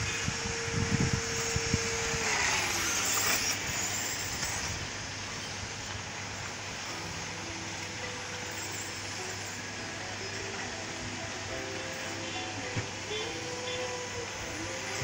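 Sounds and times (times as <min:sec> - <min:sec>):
electric motor whine: 0:00.0 - 0:15.0
high hiss: 0:00.0 - 0:15.0.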